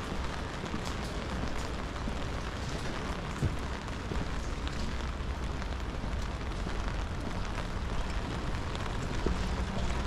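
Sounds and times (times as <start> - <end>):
low rumble of traffic: 0.0 - 10.0
steady rain hiss: 0.0 - 10.0.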